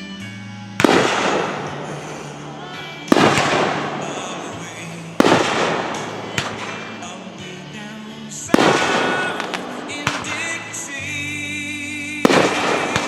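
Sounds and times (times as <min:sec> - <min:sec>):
music playing: 0:00.0 - 0:13.0
firework crack: 0:00.8 - 0:13.0
firework crackles: 0:00.8 - 0:13.0
firework shells booming: 0:00.8 - 0:13.0.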